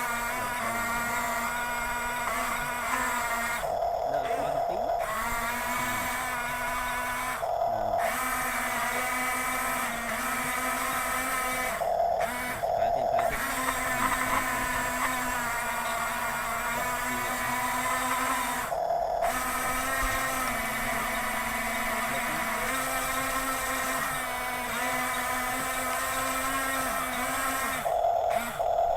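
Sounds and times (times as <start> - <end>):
electric gear motors whining: 0.0 - 28.9.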